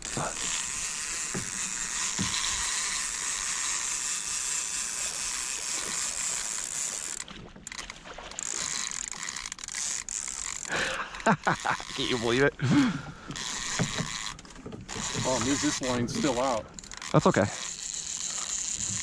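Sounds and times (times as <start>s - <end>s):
fishing reel whirring: 0.0s - 12.6s, 13.2s - 19.0s.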